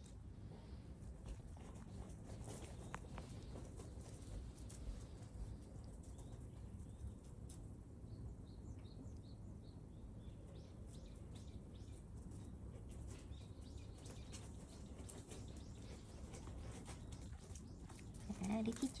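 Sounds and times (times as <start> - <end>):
small birds chirping: 1.6 - 19.0.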